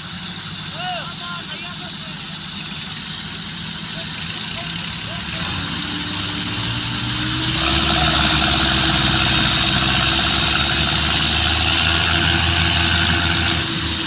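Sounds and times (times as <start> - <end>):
tractor diesel engine straining: 0.0 - 14.0.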